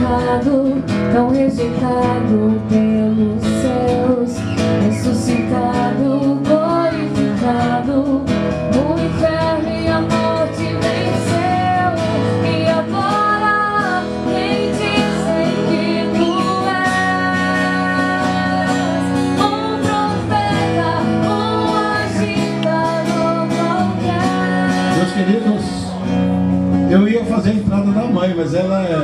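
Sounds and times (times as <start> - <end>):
guitar accompaniment: 0.0 - 29.0.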